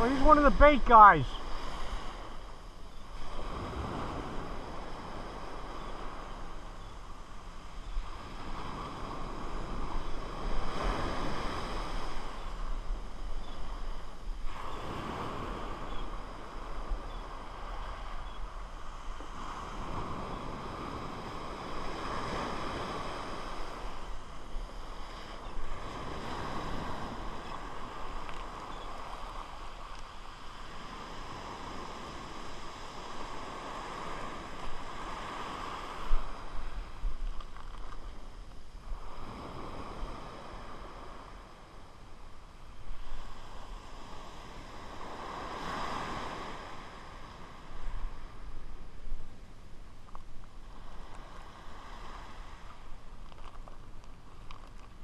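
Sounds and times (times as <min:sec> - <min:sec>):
surf washing up sandy beach: 0:00.0 - 0:55.0
wind on microphone: 0:00.0 - 0:55.0.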